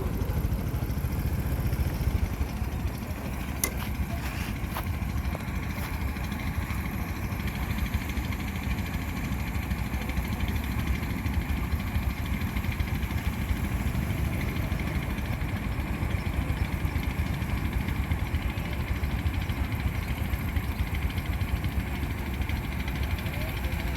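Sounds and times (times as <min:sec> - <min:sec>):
engine rumbling steadily: 0:00.0 - 0:23.9.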